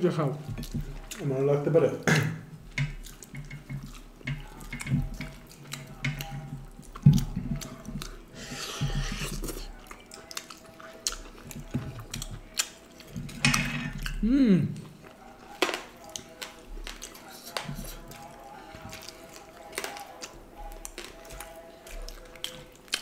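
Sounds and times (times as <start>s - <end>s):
person chewing food: 0.4s - 23.0s.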